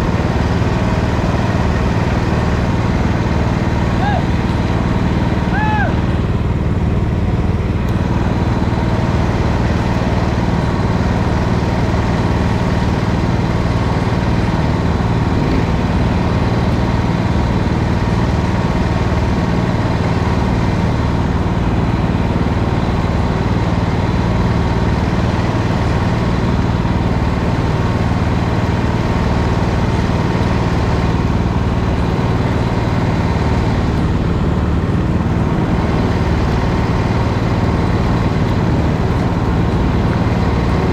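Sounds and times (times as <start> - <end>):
racing kart engine running: 0.0 - 40.9.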